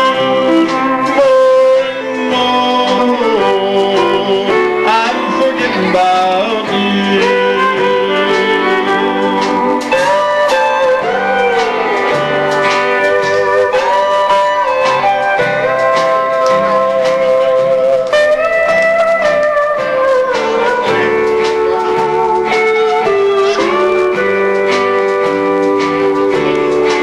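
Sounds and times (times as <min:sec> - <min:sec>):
bass: 0:00.0 - 0:27.0
steel guitar sliding notes: 0:00.0 - 0:27.0
strummed acoustic guitar: 0:00.0 - 0:27.0.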